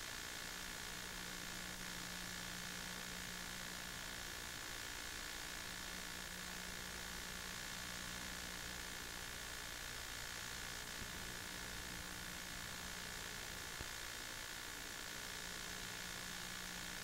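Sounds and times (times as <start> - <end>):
steady film hiss: 0.0 - 17.0.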